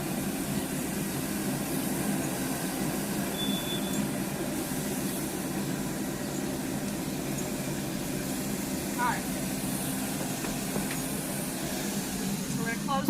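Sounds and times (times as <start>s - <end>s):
pellet grill fan humming: 0.0s - 13.0s.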